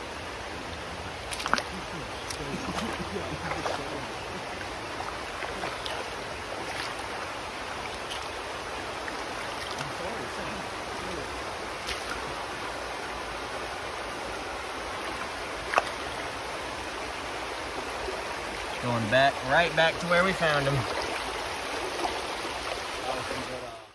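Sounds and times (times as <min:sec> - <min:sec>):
river water flowing over rocks: 0:00.0 - 0:23.9.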